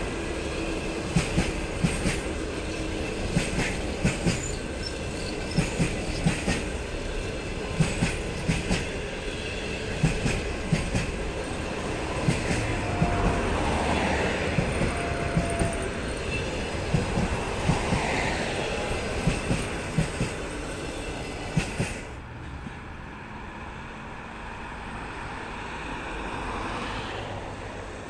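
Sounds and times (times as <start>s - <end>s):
train wheels clickety-clack: 0.0s - 22.9s
train rolling rumble: 0.0s - 28.0s.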